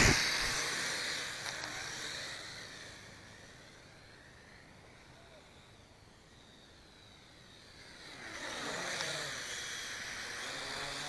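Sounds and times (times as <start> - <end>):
quadcopter propellers whirring: 0.0 - 11.0.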